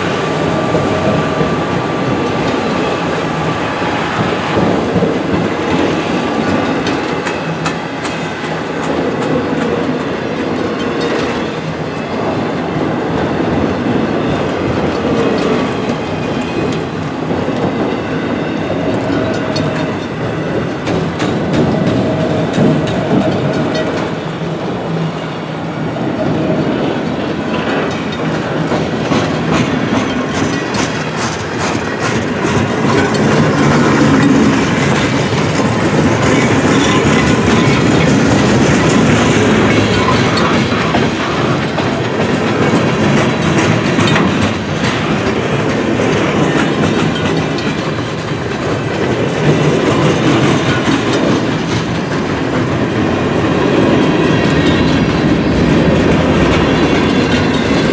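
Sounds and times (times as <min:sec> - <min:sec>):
freight train rolling past: 0:00.0 - 0:57.9
wheels clickety-clack on rails: 0:00.0 - 0:57.9.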